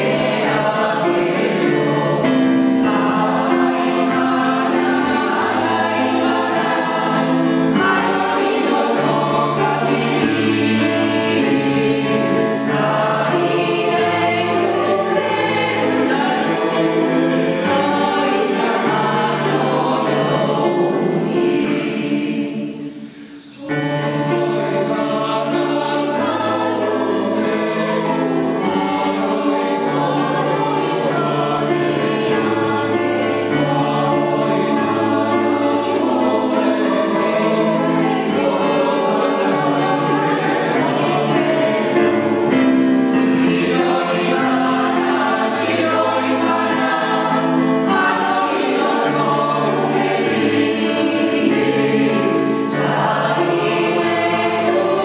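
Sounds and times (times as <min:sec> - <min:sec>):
mixed choir singing in harmony: 0:00.0 - 0:55.0.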